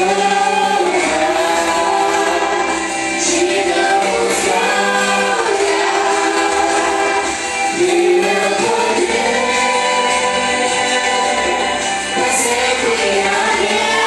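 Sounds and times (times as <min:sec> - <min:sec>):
group singing worship song: 0:00.0 - 0:14.0
instrumental backing: 0:00.0 - 0:14.0.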